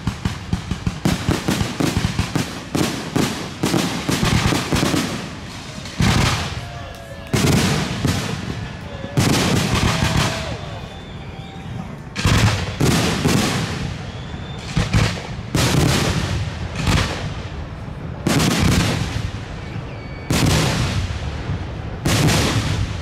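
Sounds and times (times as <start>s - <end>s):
firework shells booming: 0.0s - 23.0s.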